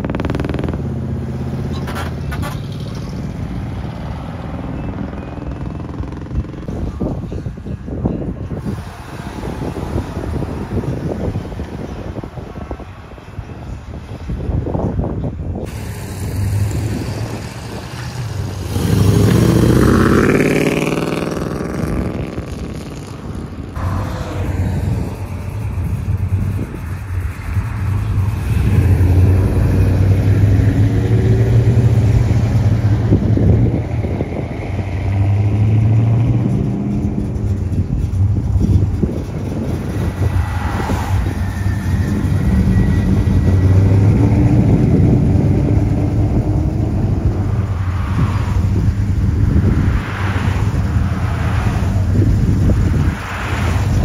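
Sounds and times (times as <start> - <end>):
engine revving: 0.0 - 6.7, 15.7 - 54.0
car engines running: 0.0 - 54.0.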